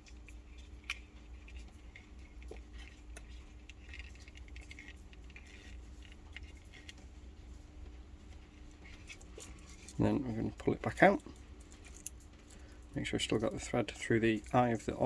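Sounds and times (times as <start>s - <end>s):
cord rustling through leather: 0.0s - 12.7s.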